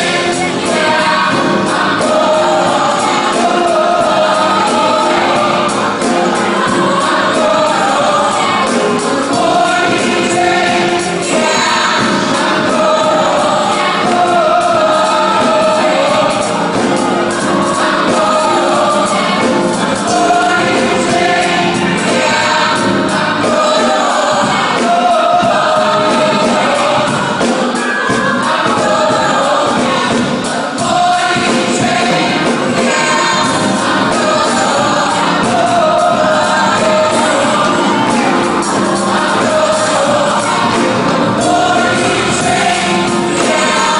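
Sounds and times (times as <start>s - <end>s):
gospel choir singing: 0.0s - 43.9s
live band playing: 0.0s - 43.9s.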